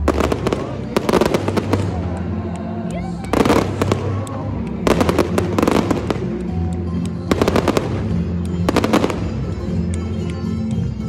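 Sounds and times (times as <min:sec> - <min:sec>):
fireworks crackling: 0:00.0 - 0:10.3
music playing: 0:00.0 - 0:11.0.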